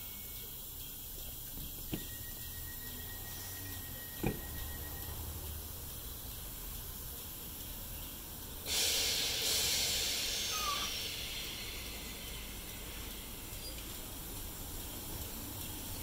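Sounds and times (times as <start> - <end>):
compressed air venting hiss: 0.0 - 16.0
train low hum: 0.0 - 16.0.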